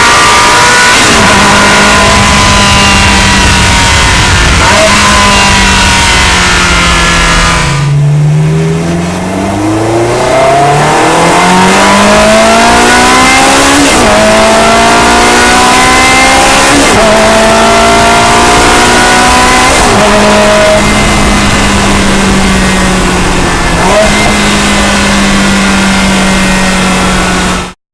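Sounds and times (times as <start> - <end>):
car engine accelerating: 0.0 - 27.8.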